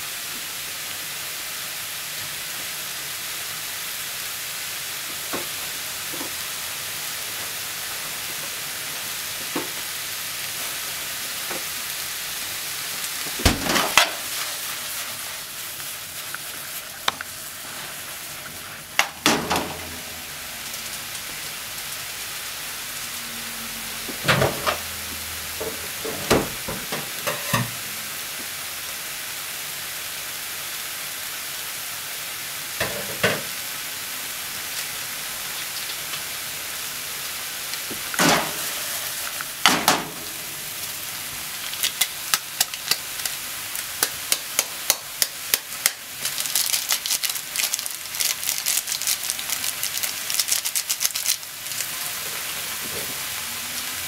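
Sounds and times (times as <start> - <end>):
vegetables sizzling in a frying pan: 0.0 - 54.0.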